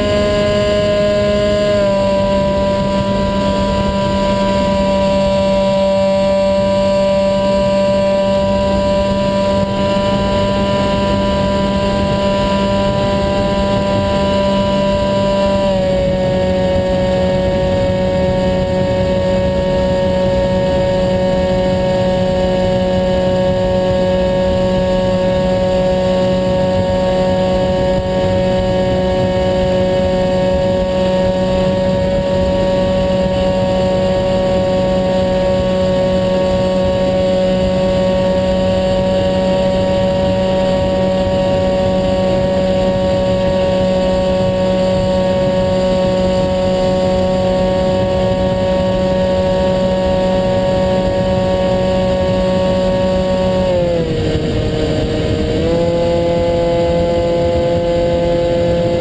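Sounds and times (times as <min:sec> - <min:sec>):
electric motor whining drone: 0:00.0 - 0:59.0
wind rushing on microphone: 0:00.0 - 0:59.0.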